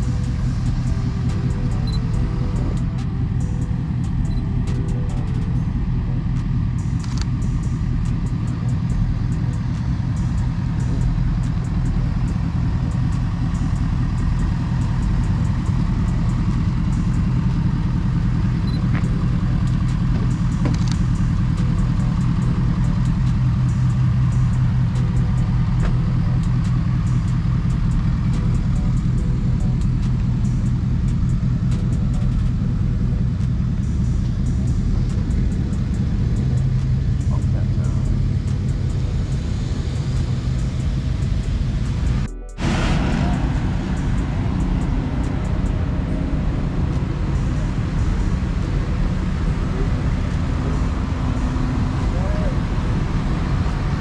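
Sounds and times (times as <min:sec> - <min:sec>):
pickup truck engines rumbling: 0:00.0 - 0:54.0.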